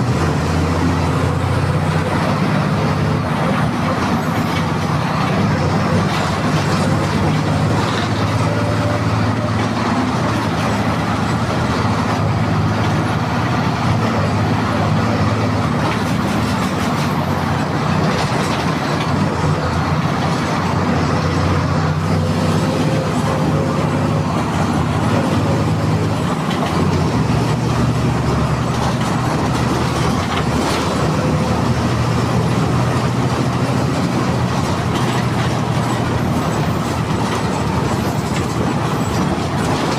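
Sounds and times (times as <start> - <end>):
bus diesel engine drone: 0.0 - 39.9
road noise: 0.0 - 39.9.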